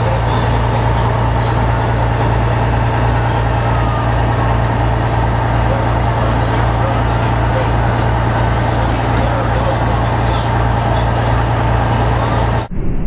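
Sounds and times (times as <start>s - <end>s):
vehicle engine idling: 0.0s - 12.7s.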